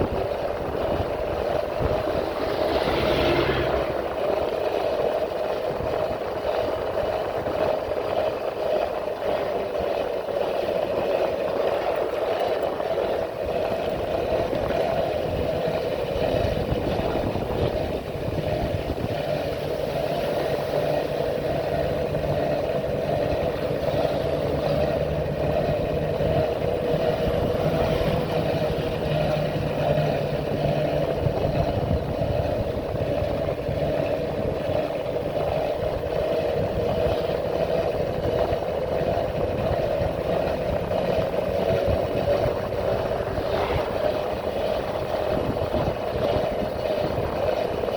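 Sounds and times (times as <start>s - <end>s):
deeper engine note: 0.0s - 7.7s, 12.5s - 47.9s
motorcycle engine running: 0.0s - 47.9s.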